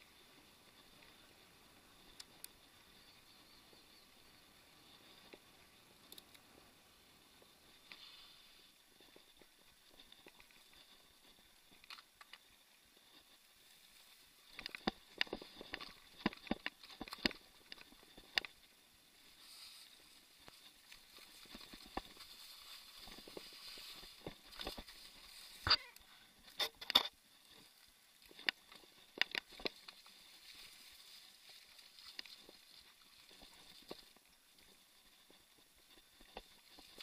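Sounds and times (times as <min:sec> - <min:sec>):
wind: 0:00.0 - 0:37.0.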